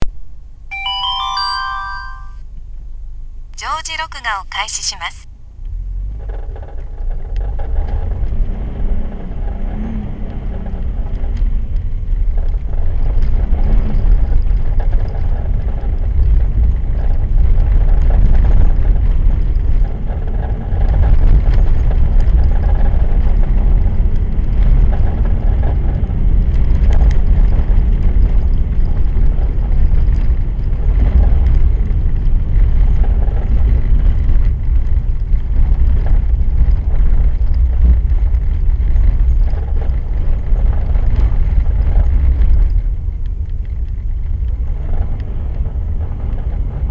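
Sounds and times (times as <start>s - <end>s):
car driving on ice rumble: 5.4s - 46.9s
abnormal wheel noise: 5.6s - 46.9s.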